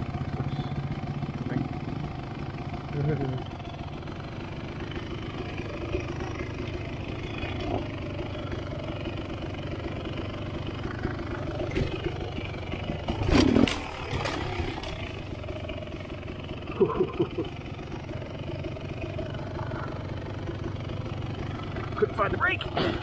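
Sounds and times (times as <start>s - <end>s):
dirt bike engine at low revs: 0.0s - 23.0s.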